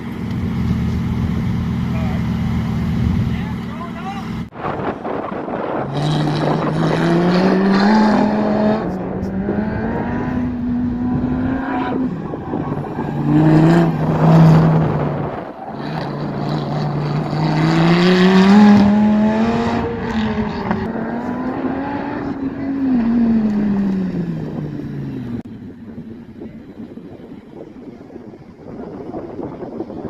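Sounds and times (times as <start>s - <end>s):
car engine accelerating hard: 0.0s - 25.5s.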